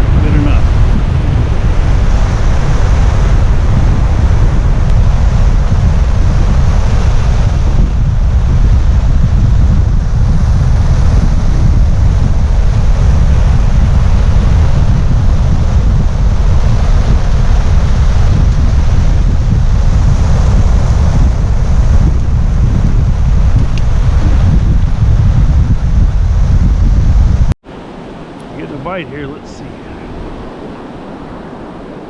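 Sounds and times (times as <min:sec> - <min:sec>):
surf washing on beach: 0:00.0 - 0:27.0, 0:27.6 - 0:32.0
wind buffeting microphone: 0:00.0 - 0:32.0.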